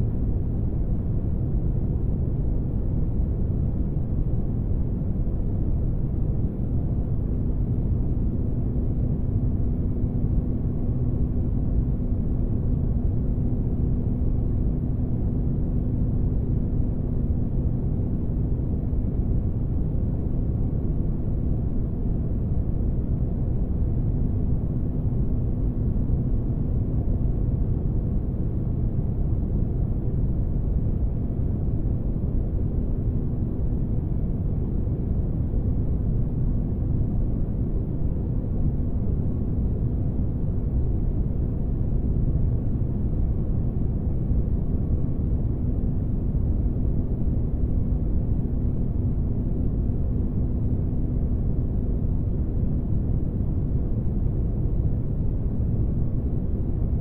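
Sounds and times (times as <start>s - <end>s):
faint constant hum: 0.0s - 57.0s.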